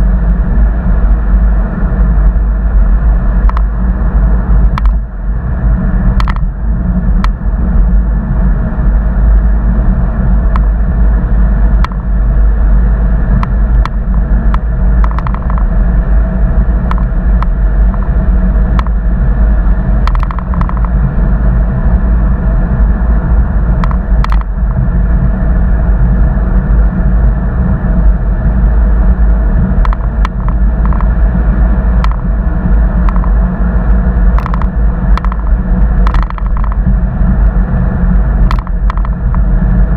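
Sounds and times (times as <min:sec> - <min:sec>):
car rumble in motion: 0:00.0 - 0:39.9.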